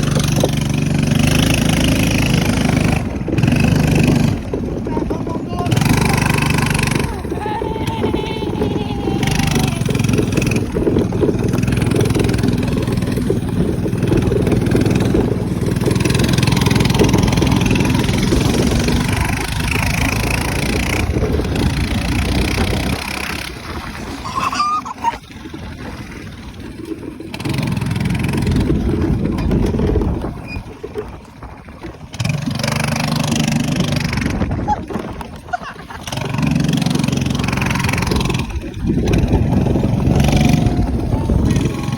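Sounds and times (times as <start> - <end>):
minibike engine running: 0.0 - 41.9.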